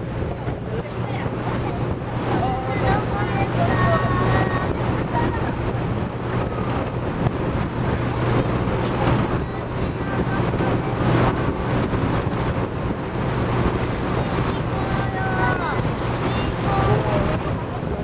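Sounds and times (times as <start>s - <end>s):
boat engine drone: 0.0s - 18.0s
churning sea water: 0.0s - 18.0s
wind buffeting microphone: 0.0s - 18.0s.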